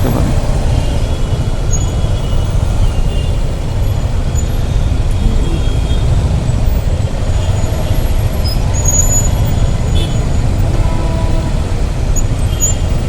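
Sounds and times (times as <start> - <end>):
low rumble of engines: 0.0 - 13.0.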